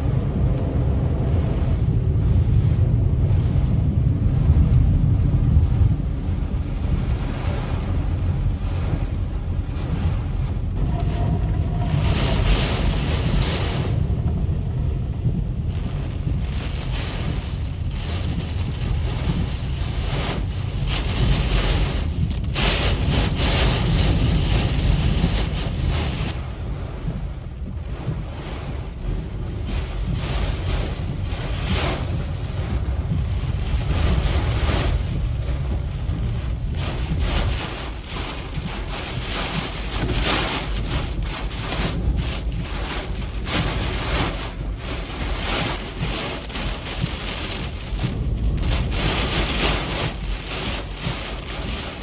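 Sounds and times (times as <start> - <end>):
wind buffeting microphone: 0.0 - 52.0
wind-driven rain hiss: 0.0 - 52.0.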